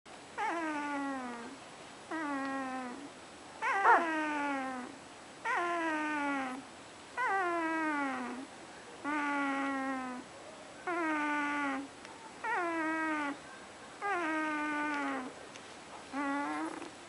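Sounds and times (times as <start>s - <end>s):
puppy whining in sleep: 0.4s - 13.4s, 14.0s - 15.4s, 16.1s - 17.0s.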